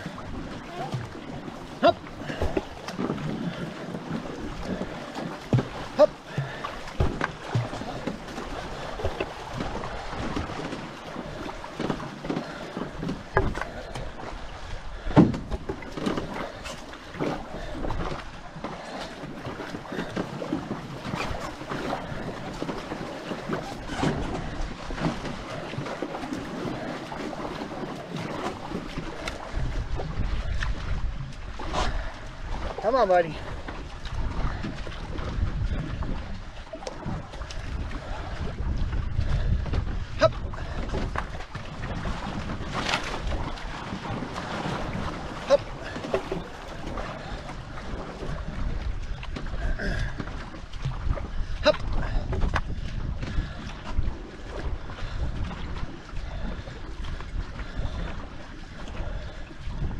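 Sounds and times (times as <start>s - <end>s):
canoe paddles splashing: 0.0s - 59.9s
rushing water and wind: 0.0s - 59.9s.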